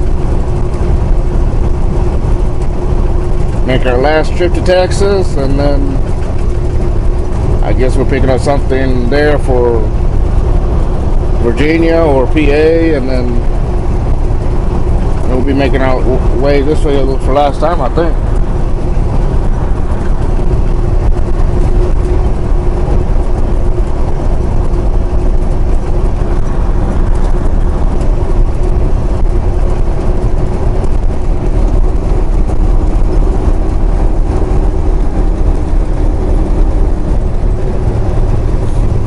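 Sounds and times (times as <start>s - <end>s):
constant low hum: 0.0s - 39.0s
diesel engine drone: 0.0s - 39.0s
road noise: 0.0s - 39.0s.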